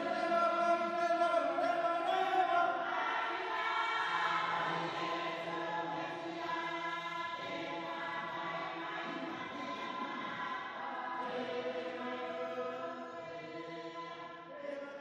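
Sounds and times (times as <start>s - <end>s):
choral voices holding chords: 0.0s - 15.0s.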